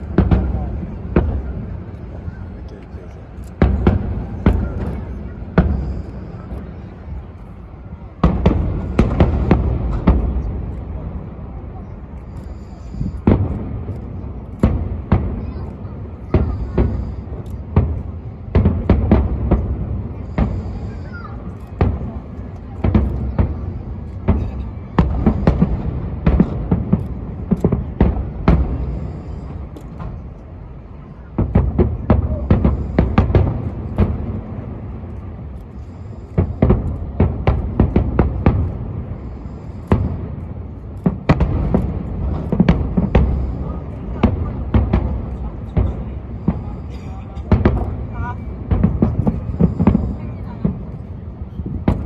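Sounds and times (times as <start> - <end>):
fireworks bursting with echo: 0.0 - 52.0.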